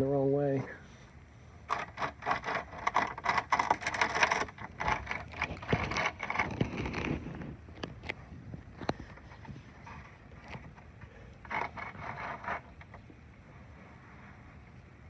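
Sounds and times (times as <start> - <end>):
hands handling objects scraping: 0.6 - 8.2, 8.8 - 14.6.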